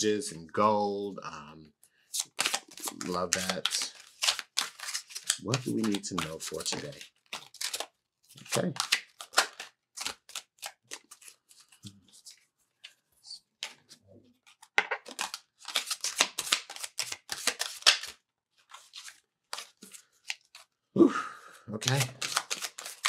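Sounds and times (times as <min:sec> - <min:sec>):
cards being shuffled: 0:02.2 - 0:13.0, 0:13.6 - 0:20.7, 0:21.8 - 0:23.0.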